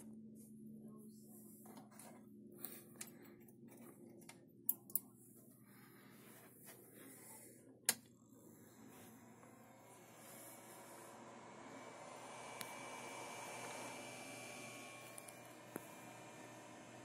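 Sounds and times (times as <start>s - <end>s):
faint cooling fan hum: 0.0s - 17.0s.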